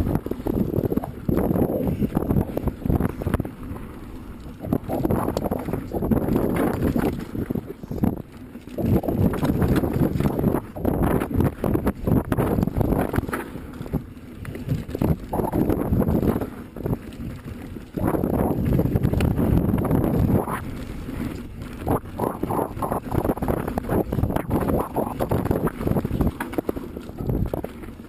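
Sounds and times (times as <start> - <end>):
bike knocking and rattling: 0.0 - 28.0
bike tyres rumbling on dirt: 0.0 - 28.0.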